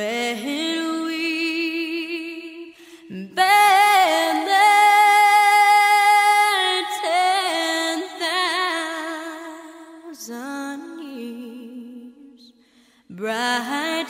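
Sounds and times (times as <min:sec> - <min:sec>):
woman singing unaccompanied: 0:00.0 - 0:12.5, 0:13.1 - 0:14.0.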